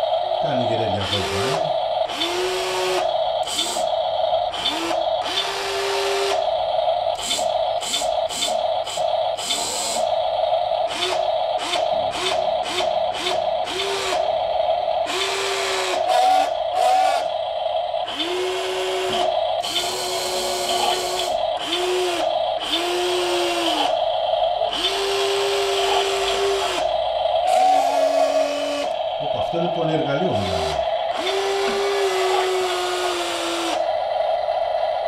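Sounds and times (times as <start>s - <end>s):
electric motors whirring: 0.0s - 10.2s, 10.8s - 17.4s, 18.0s - 34.0s.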